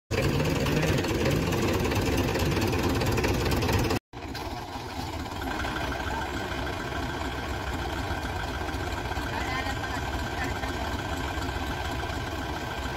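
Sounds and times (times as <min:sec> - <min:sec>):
tractor diesel engine running: 0:00.1 - 0:12.9.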